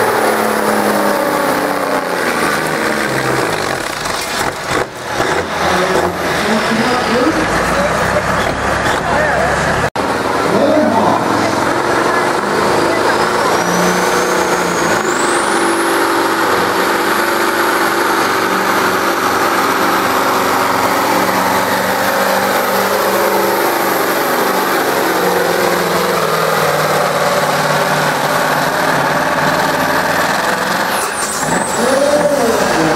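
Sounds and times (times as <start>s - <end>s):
high turbo whine: 0.0s - 32.9s
truck diesel engine at full throttle: 0.0s - 32.9s.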